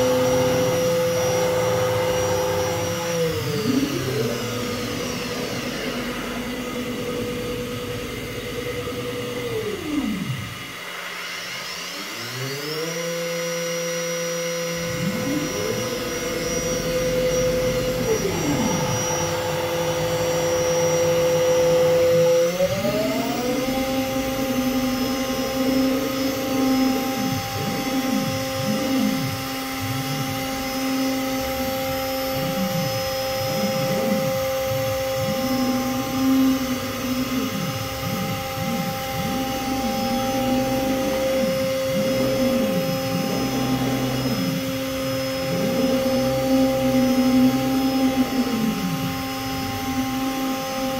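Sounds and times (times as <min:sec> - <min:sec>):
drive motors whining in sweeps: 0:00.0 - 0:50.9
router spindle whining: 0:00.0 - 0:50.9.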